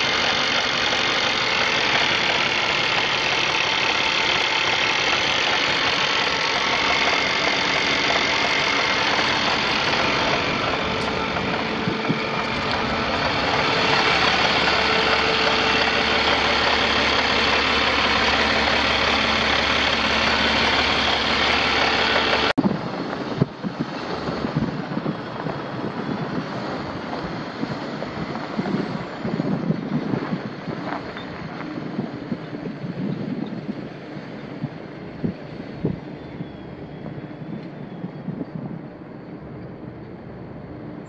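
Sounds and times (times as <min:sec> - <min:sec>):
diesel engine idling: 0:00.0 - 0:38.0
wind buffeting microphone: 0:01.5 - 0:22.0, 0:22.6 - 0:41.0.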